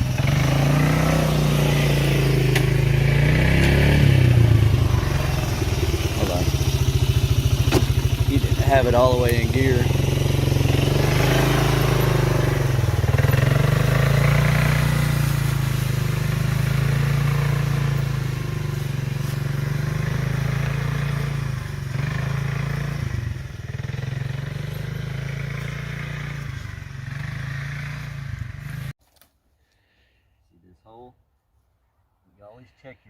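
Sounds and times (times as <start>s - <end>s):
small vehicle engine running: 0.0s - 28.9s.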